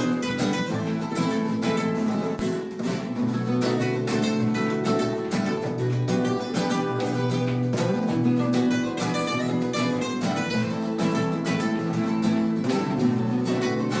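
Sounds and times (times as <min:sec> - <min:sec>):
flamenco acoustic guitar: 0:00.0 - 0:14.0.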